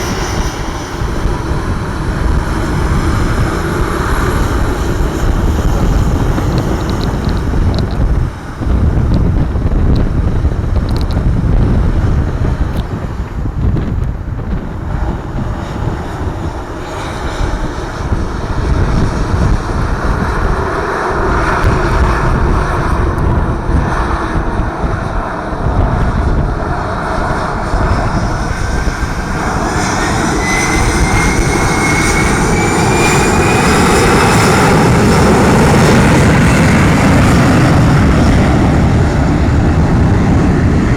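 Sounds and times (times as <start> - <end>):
aircraft engines rumbling: 0.0 - 40.9
wind buffeting microphone: 0.0 - 40.9.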